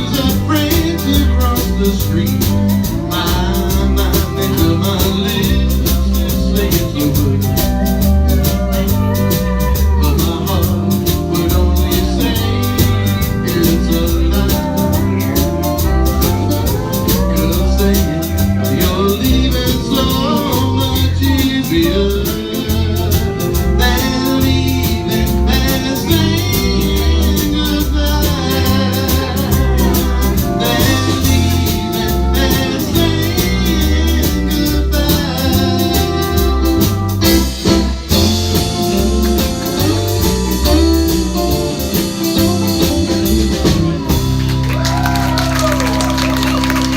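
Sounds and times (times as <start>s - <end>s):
live band playing country song: 0.0s - 46.9s.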